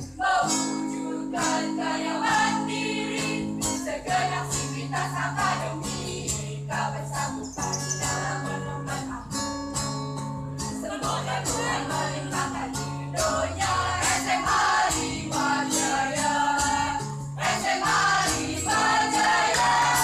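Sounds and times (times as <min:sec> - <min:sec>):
acoustic guitar: 0:00.0 - 0:20.0
children's choir singing: 0:00.1 - 0:08.6, 0:10.8 - 0:20.0.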